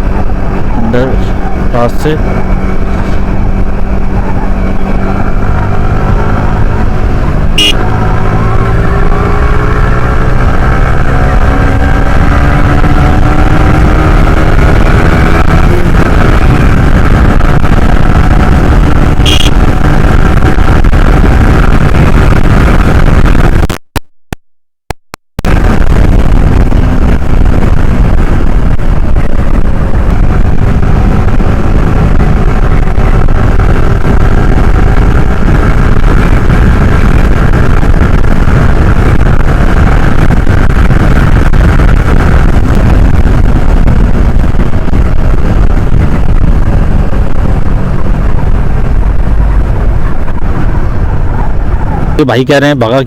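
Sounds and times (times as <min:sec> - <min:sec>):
motorcycle engine running: 0:00.0 - 0:23.8, 0:24.9 - 0:52.4
wind rumble on microphone: 0:00.0 - 0:23.8, 0:25.4 - 0:53.0.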